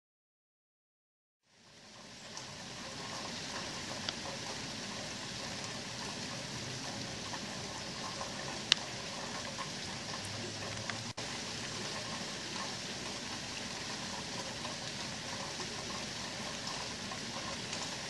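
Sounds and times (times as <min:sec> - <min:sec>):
heavy rain falling: 0:01.5 - 0:18.0.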